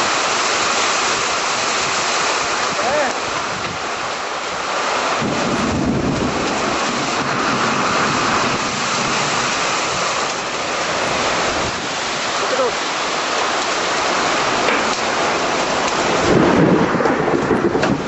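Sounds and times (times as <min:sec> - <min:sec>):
heavy rain pouring: 0:00.0 - 0:18.0
thunder rumbling: 0:02.4 - 0:18.0.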